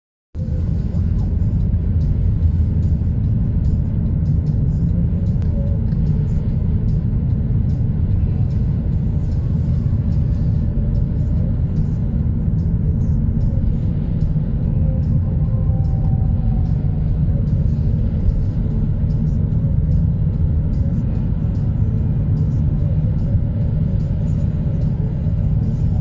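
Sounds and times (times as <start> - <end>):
car engine and tyre rumble: 0.3 - 26.0.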